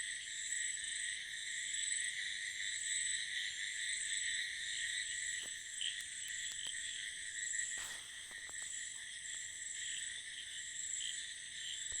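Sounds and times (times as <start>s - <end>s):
frogs and crickets trilling: 0.0s - 12.0s.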